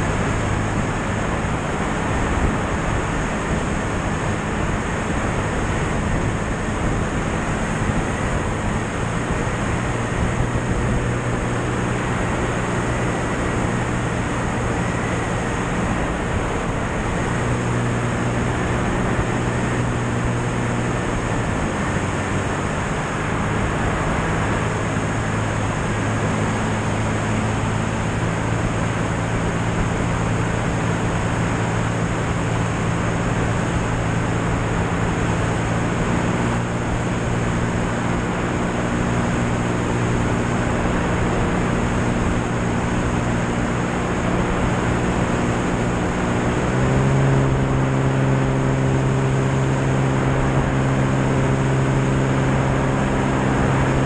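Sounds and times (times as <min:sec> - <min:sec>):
piston engine drone: 0:00.0 - 0:54.0
rush of airflow: 0:00.0 - 0:54.0.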